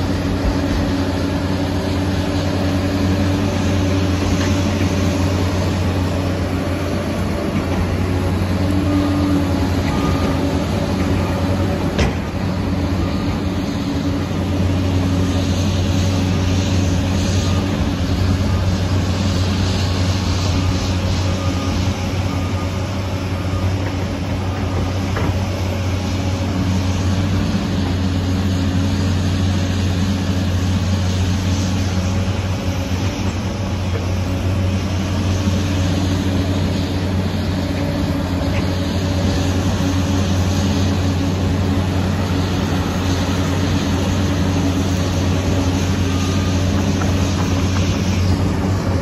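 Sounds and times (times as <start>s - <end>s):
dozer diesel engine running: 0.0s - 49.0s.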